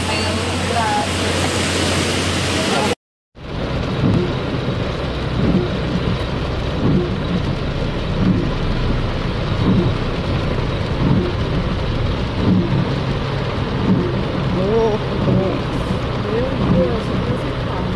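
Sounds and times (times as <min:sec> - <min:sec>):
floodwater rushing: 0:00.0 - 0:17.9
heavy rain: 0:00.0 - 0:17.9.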